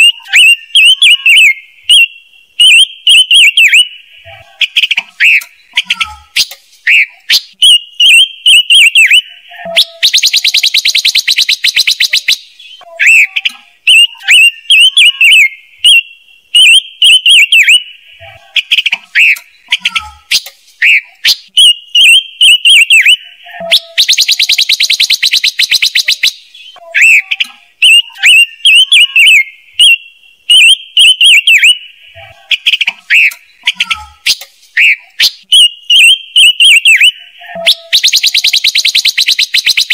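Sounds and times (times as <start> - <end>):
songbird whistled notes: 4.7 - 17.9, 18.7 - 31.9, 32.7 - 39.9.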